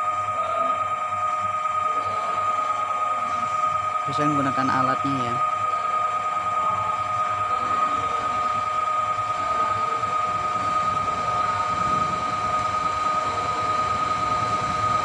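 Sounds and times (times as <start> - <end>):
brake lathe high whine: 0.0 - 15.0.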